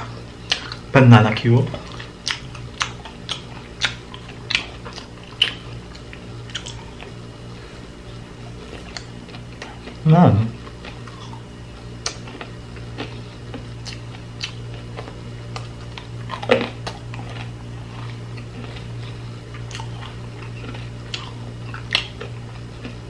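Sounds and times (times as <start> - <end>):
steady low hum: 0.0 - 23.0
close chewing with mouth clicks: 0.4 - 0.9, 1.7 - 7.2, 8.4 - 10.0, 10.6 - 23.0.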